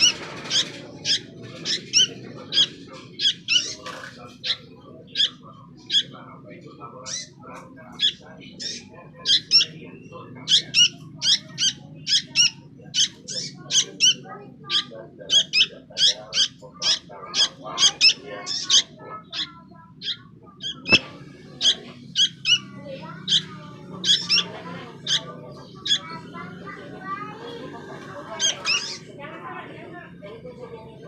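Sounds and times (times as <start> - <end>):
birds chirping rapidly: 0.0 - 31.0.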